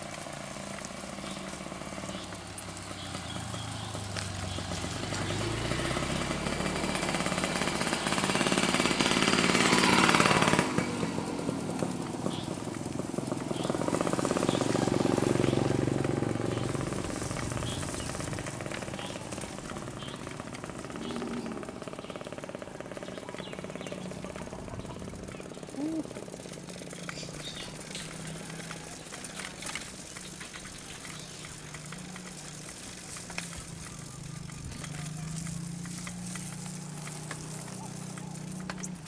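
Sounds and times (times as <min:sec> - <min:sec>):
vehicle engine passing by: 0:00.0 - 0:39.0.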